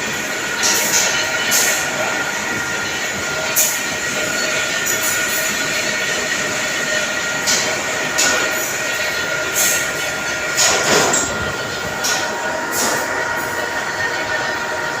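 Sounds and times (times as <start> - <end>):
machine tool cutting metal: 0.0 - 14.8.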